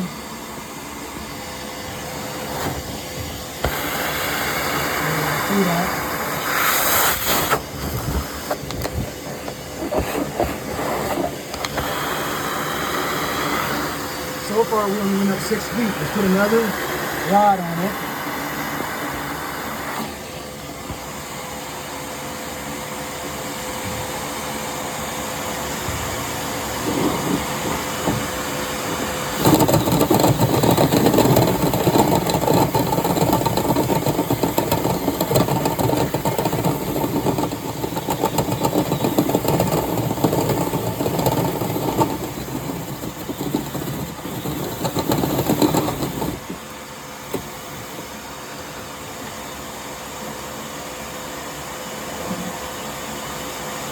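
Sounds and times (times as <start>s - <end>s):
loud rough machine noise: 0.0s - 20.6s, 23.7s - 48.2s
cleaning machine motor running: 0.0s - 48.5s.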